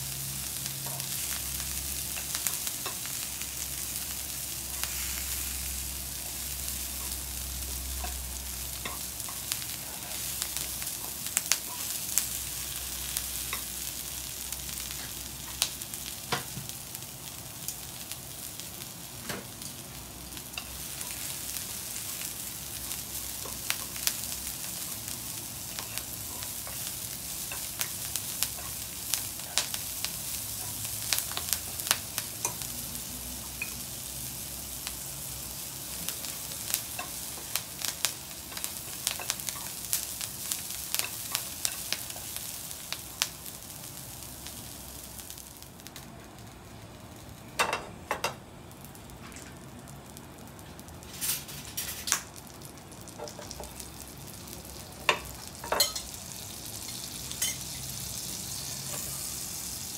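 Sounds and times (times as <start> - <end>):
greens sizzling in frying pan: 0.0 - 59.9.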